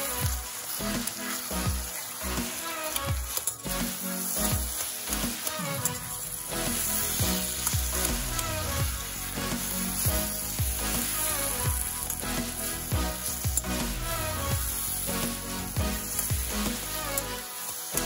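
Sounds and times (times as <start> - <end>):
background music beat: 0.0 - 18.0
food sizzling in oil: 0.0 - 18.0
metal spatula scraping: 0.0 - 18.0.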